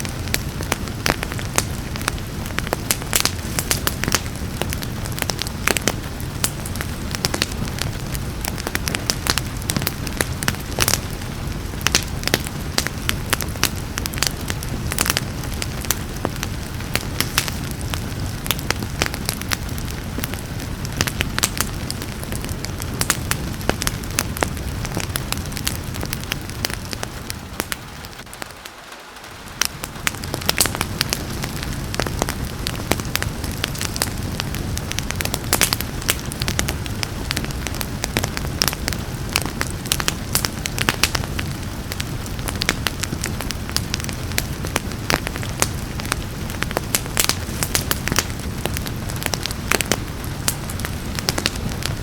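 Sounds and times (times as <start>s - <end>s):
rain hissing: 0.0s - 52.0s
wood fire crackling and popping: 0.0s - 52.0s.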